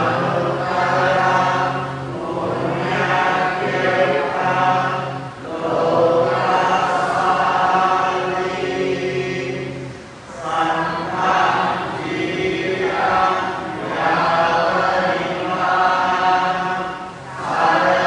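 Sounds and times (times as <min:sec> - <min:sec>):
group chanting: 0:00.0 - 0:18.0.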